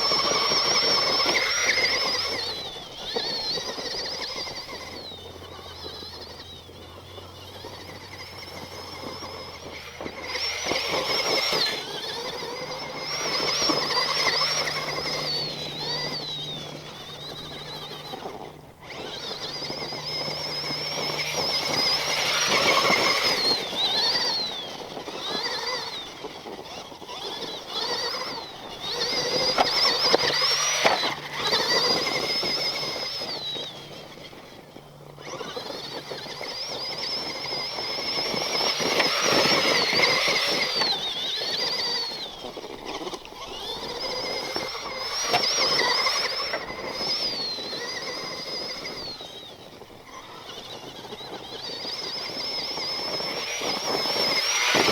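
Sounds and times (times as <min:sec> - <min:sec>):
toy truck motor whining: 0:00.0 - 0:54.9
tyres rolling on rough ground: 0:00.0 - 0:54.9.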